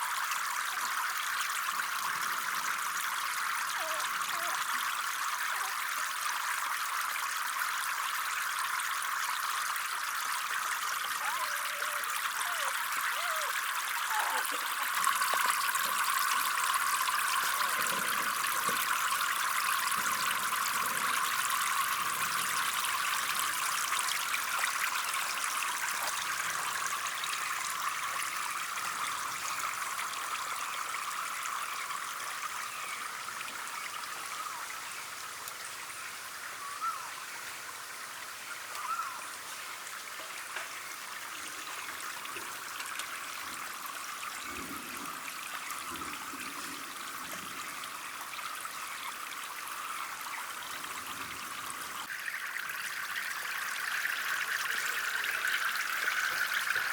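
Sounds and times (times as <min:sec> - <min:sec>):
water trickling: 0:00.0 - 0:56.9.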